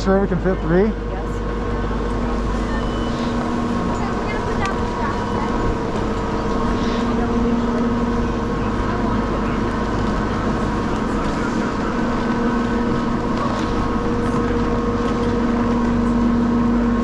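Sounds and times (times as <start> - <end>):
chairlift machinery drone: 0.0 - 17.0.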